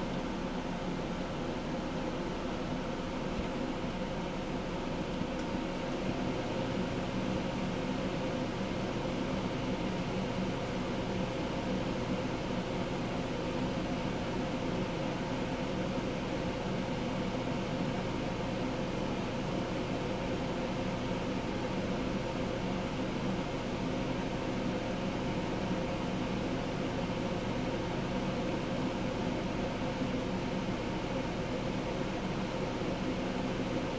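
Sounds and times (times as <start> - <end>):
ceiling fan motor hum: 0.0 - 33.9.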